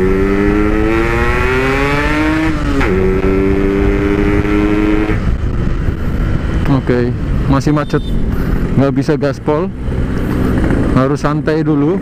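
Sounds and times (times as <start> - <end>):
two-stroke motorcycle accelerating: 0.0 - 12.0.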